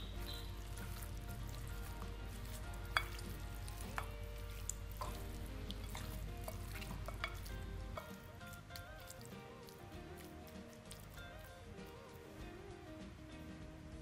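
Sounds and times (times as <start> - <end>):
hand squishing raw chicken: 0.0 - 12.2
soft background music: 0.0 - 14.0.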